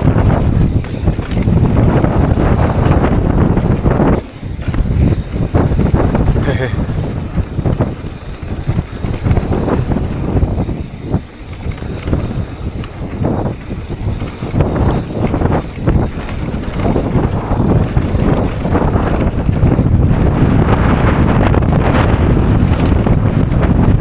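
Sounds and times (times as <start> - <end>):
bike knocking and rattling: 0.0 - 24.0
bike tyre noise: 0.0 - 24.0
wind rushing over microphone: 0.0 - 24.0.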